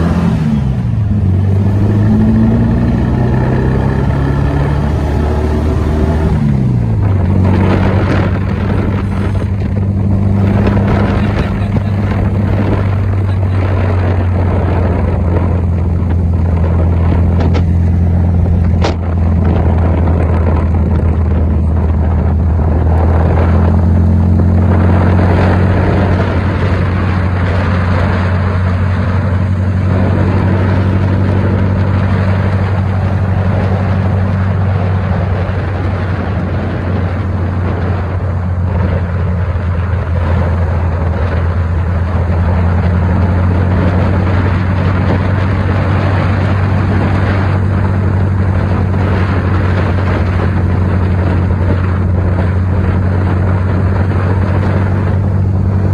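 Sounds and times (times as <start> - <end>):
car engine running: 0.0 - 55.9
road and wind noise: 0.0 - 55.9.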